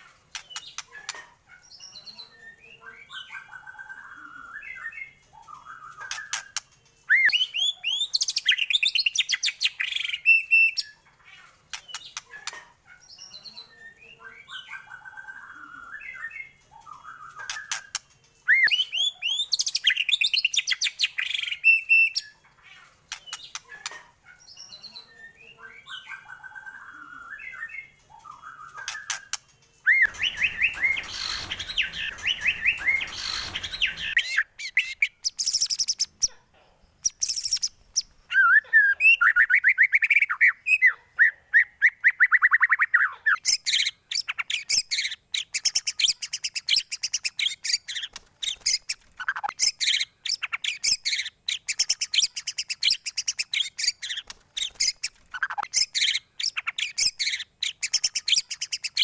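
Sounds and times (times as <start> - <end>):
bird song with whistles and trills: 0.0 - 11.0, 11.7 - 22.4, 23.1 - 36.1, 37.0 - 59.0.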